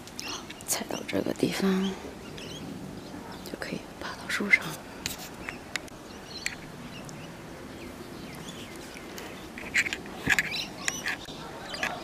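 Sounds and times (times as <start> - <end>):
small birds chirping: 0.0 - 12.0
steady low hiss: 0.0 - 12.0
branches rustling: 1.4 - 12.0.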